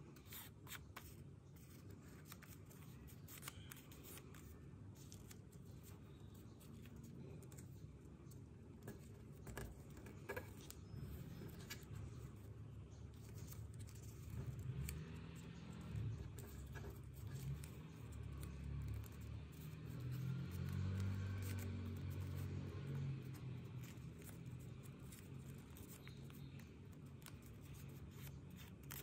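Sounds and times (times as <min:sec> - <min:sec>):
paper rustling and crackling: 0:00.0 - 0:29.0.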